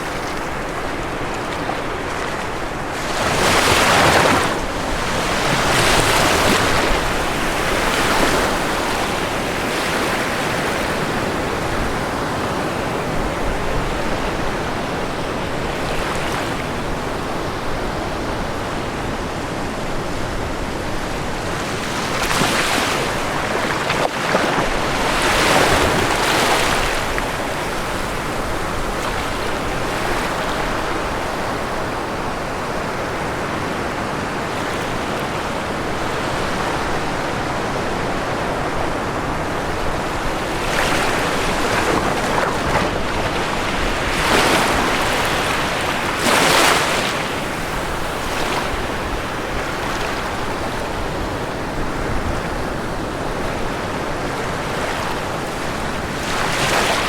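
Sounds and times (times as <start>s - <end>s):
ocean surf washing onto shore: 0.0s - 57.0s
waves breaking: 0.0s - 57.0s.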